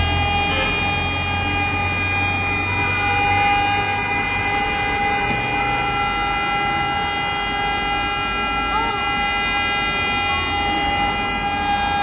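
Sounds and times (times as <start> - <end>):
air-raid sirens: 0.0 - 12.0
street traffic: 0.0 - 12.0.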